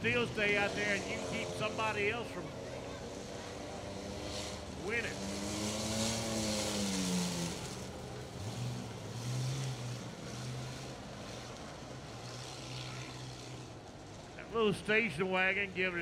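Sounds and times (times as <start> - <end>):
car engines droning: 0.0 - 16.0.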